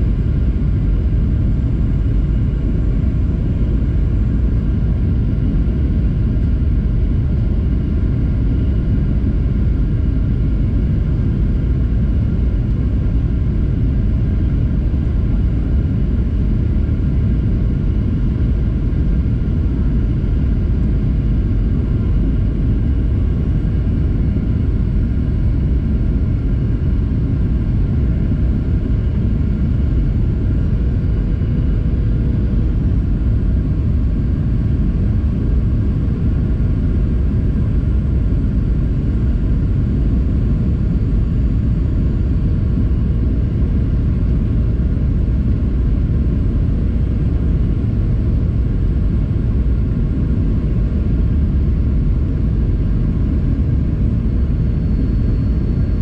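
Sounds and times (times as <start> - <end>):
faint engine hum: 0.0 - 56.0
jet engine rumble in cabin: 0.0 - 56.0.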